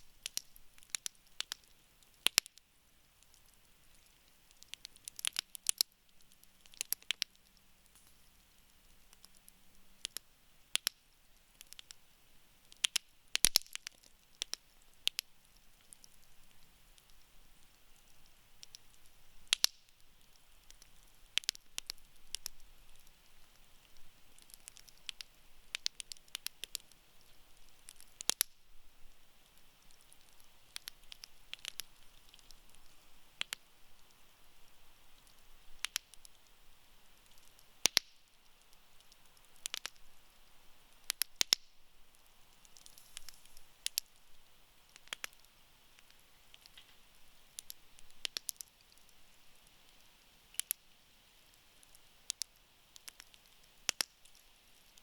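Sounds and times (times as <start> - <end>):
burning wood hiss: 0.0 - 55.0
campfire crackling and popping: 0.0 - 55.0.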